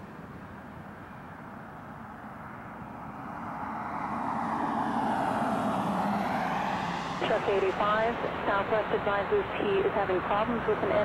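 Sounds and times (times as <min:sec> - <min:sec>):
jet engine rushing: 0:02.0 - 0:11.0.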